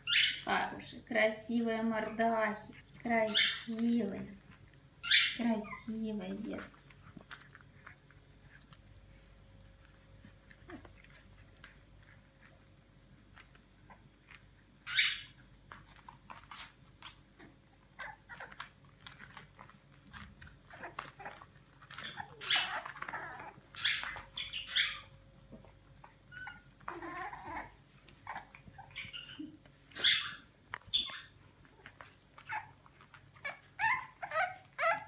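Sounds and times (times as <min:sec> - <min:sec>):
puppies squeaking and yelping: 0:00.0 - 0:00.9, 0:01.7 - 0:12.7, 0:13.4 - 0:35.0.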